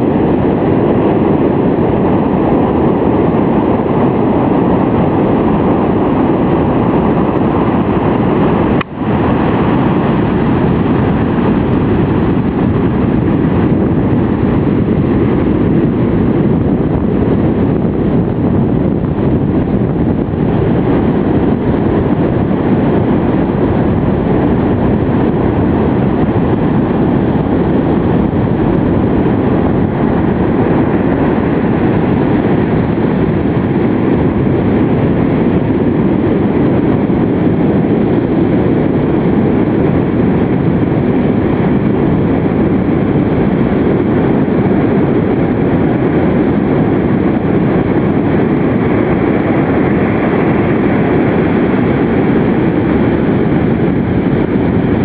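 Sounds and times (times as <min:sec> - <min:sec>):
heavy storm surf roaring: 0:00.0 - 0:55.0
wind: 0:00.0 - 0:55.0.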